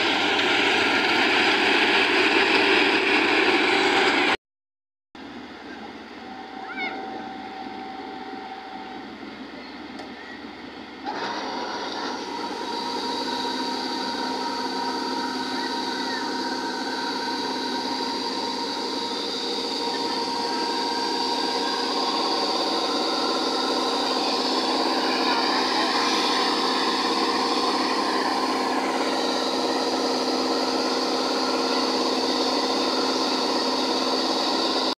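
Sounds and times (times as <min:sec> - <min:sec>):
combine harvester engine drone: 0:00.0 - 0:04.4, 0:05.2 - 0:35.0
machinery whining tones: 0:05.2 - 0:35.0.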